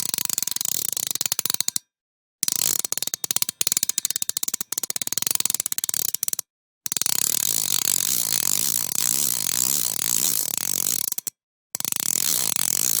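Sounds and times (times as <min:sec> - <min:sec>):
hand crank ratcheting clicks: 0:02.4 - 0:13.0.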